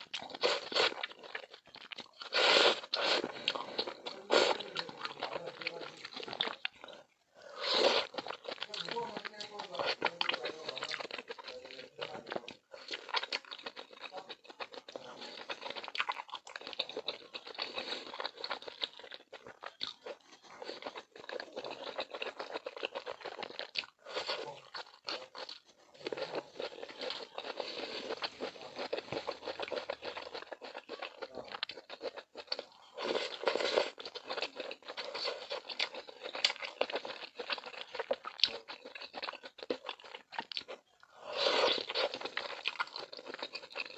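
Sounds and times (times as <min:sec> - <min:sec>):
food crunching and crackling: 0:00.0 - 0:43.9.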